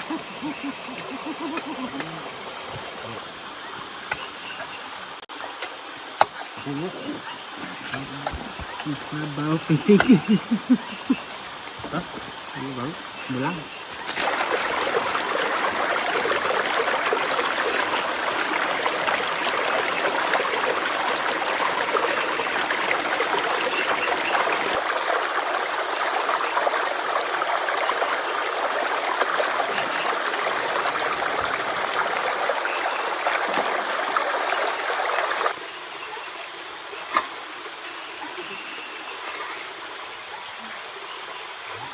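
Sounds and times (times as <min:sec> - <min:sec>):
rush of flowing water: 0:00.0 - 0:41.9.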